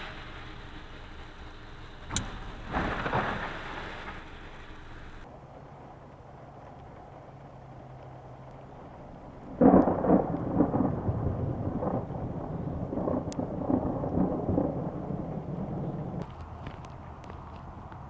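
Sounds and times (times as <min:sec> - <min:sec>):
low steady hum: 0:00.0 - 0:18.0
thunder clap and rolling rumble: 0:00.0 - 0:18.0.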